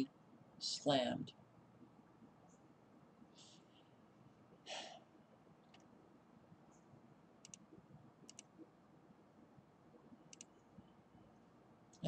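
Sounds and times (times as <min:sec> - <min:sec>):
quiet room hiss: 0:00.0 - 0:12.0.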